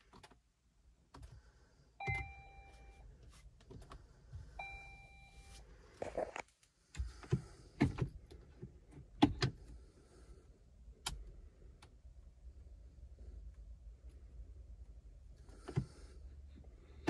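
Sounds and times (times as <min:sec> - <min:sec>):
low cabin hum: 0:00.9 - 0:17.0.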